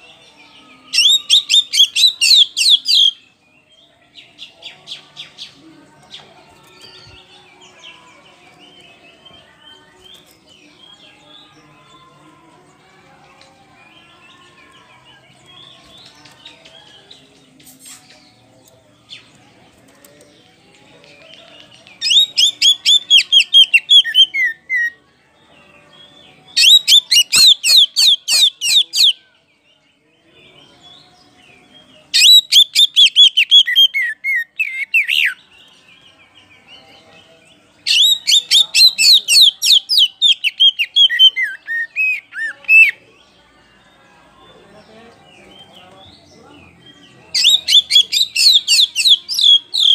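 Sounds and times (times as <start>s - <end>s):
magpie-robin singing: 0.0s - 18.4s, 19.1s - 25.0s, 25.7s - 29.8s, 30.4s - 49.9s.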